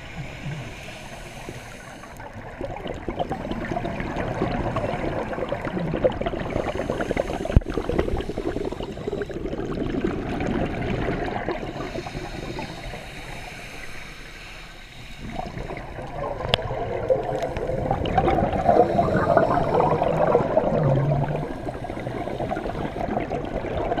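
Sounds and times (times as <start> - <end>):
underwater bubbles gurgling: 0.0 - 24.0.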